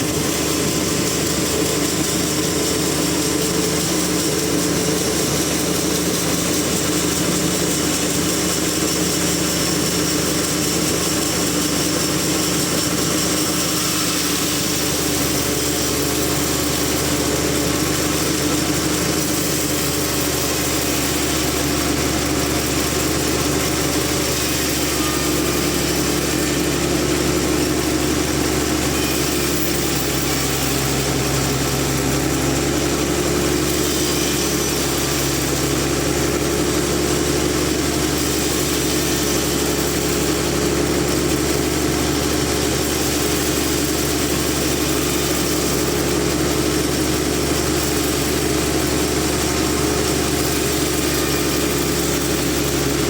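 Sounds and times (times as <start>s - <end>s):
sawmill machinery humming: 0.0s - 53.0s.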